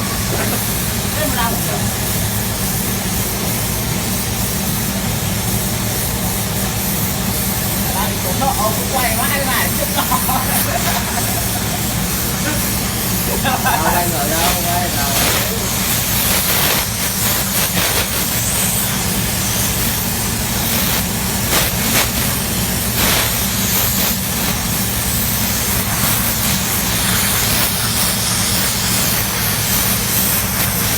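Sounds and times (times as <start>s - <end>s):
low machine hum: 0.0s - 4.2s, 4.9s - 30.9s
paint spray gun hissing: 0.0s - 30.9s.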